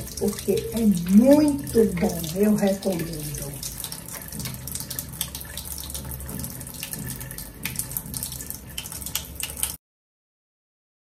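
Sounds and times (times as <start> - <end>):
tap water splashing on plastic: 0.0 - 9.8.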